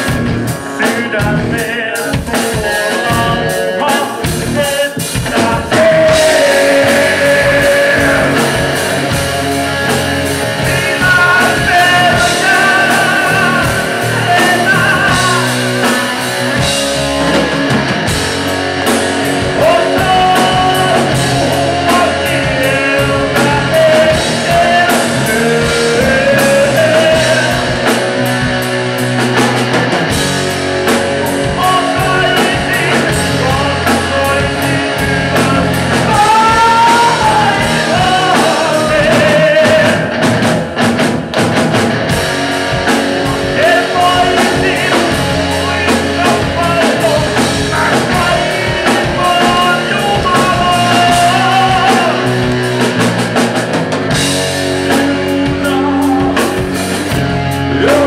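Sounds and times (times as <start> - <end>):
man singing: 0.0 - 28.7, 30.8 - 40.5, 42.8 - 53.0, 54.1 - 58.0
drum kit: 0.0 - 58.0
electric guitars: 0.0 - 58.0.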